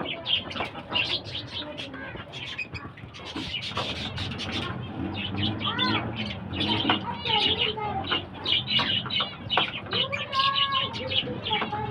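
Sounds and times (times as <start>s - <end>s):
lovebirds chirping: 0.0s - 11.9s.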